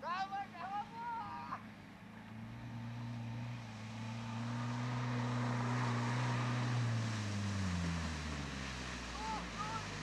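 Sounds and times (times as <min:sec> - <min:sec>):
vehicle engine under load: 0:00.4 - 0:10.0
water splashing around wheels: 0:01.6 - 0:10.0.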